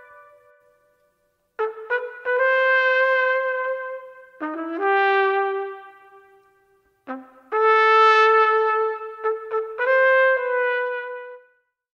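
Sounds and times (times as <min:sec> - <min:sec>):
solo brass horn melody: 0:00.0 - 0:00.9, 0:01.6 - 0:11.6.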